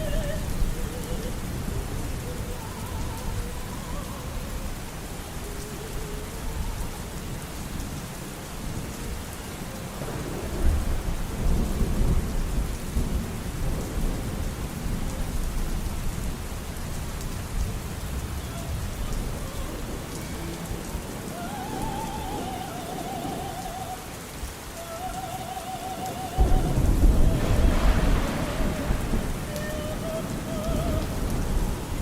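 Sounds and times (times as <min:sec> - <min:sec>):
low roll of thunder: 0:00.0 - 0:32.0
steady rain falling: 0:00.0 - 0:32.0.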